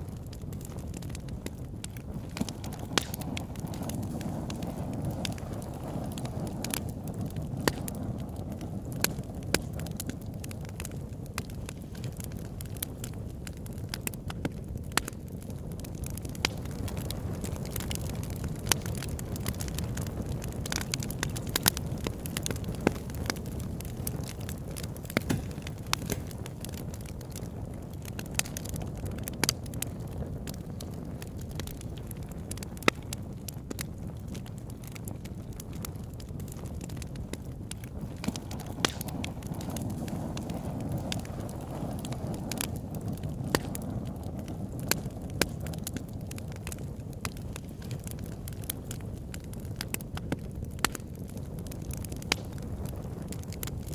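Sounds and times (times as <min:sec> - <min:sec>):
fire crackling and popping: 0:00.0 - 0:53.9
low rush of flames: 0:00.0 - 0:53.9.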